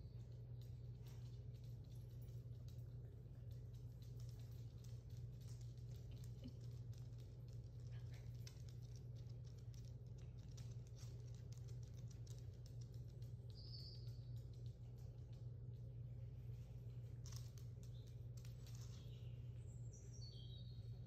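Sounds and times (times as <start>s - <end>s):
steady low hum: 0.0s - 21.0s
dog claws clicking on wood floor: 0.2s - 15.8s, 17.2s - 19.2s.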